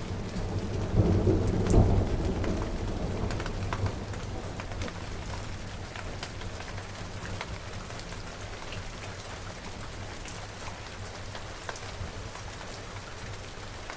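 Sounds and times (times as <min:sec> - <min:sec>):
rain on a hard surface: 0:00.0 - 0:13.9.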